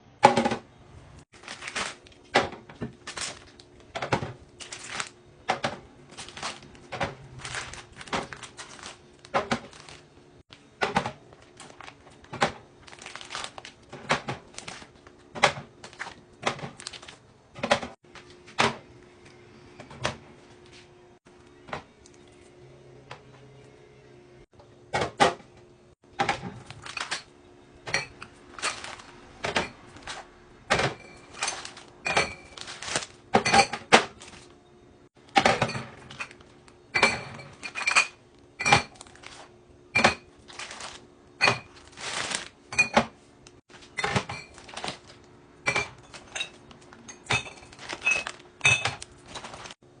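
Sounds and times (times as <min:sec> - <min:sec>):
containers clattering in refrigerator: 0:01.4 - 0:18.9, 0:24.9 - 0:25.5, 0:26.1 - 0:34.6, 0:35.2 - 0:49.8.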